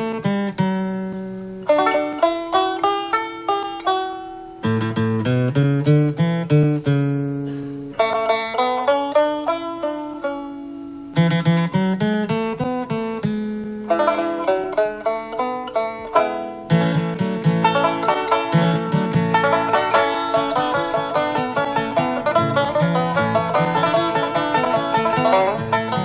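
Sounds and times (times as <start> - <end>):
plucked string instrumental: 0.0 - 26.0.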